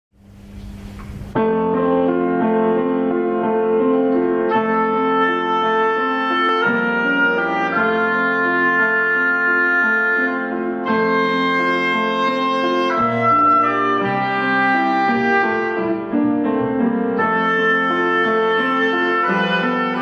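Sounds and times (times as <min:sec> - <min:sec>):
grand piano playing: 0:00.2 - 0:20.0.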